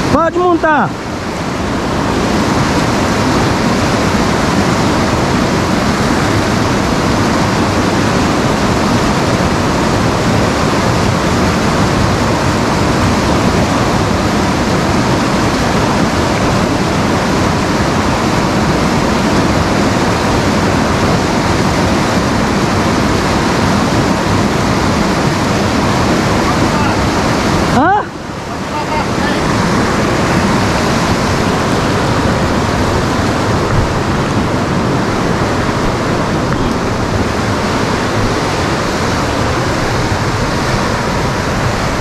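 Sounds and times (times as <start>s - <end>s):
white water rushing: 0.0s - 42.0s.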